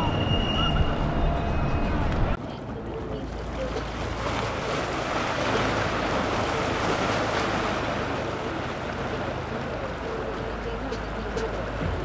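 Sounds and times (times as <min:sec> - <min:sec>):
boat wake rushing and splashing: 0:00.0 - 0:12.0
powerboat engines: 0:00.0 - 0:12.0.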